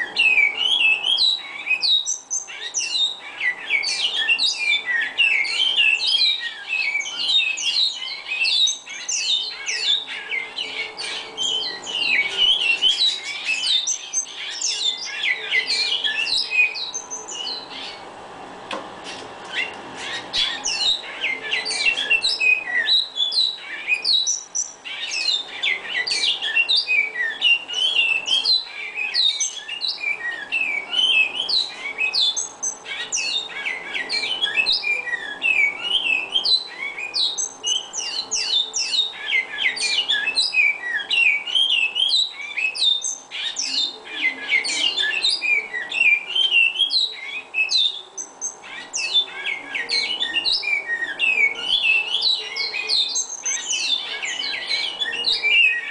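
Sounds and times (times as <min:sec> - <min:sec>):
finches singing whistled notes: 0:00.0 - 0:18.1, 0:19.1 - 0:55.9.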